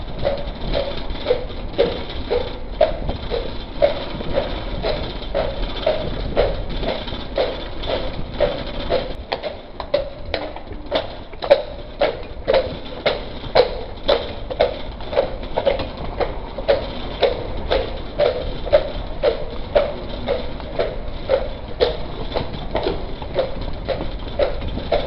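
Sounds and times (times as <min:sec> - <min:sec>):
horse hooves clopping: 0:00.0 - 0:25.0.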